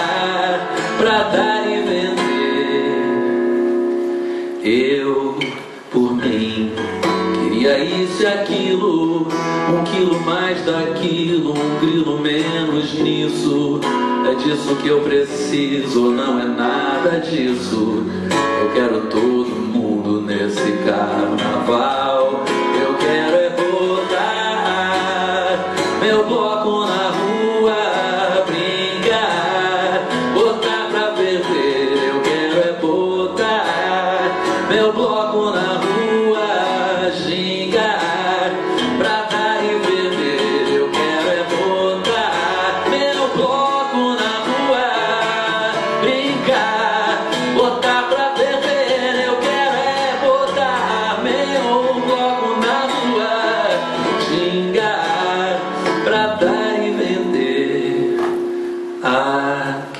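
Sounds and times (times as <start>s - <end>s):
live band with guitars: 0.0s - 59.9s
person singing: 0.0s - 59.9s.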